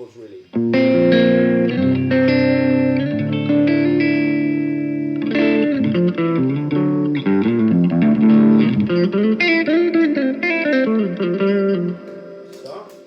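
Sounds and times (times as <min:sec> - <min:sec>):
electric guitar notes and chords: 0:00.5 - 0:13.0.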